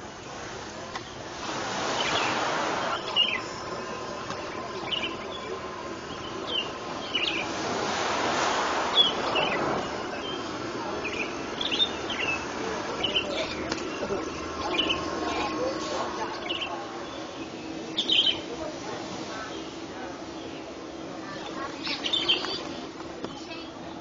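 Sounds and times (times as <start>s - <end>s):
birds chirping: 0.0s - 24.0s
rushing background noise: 0.0s - 24.0s.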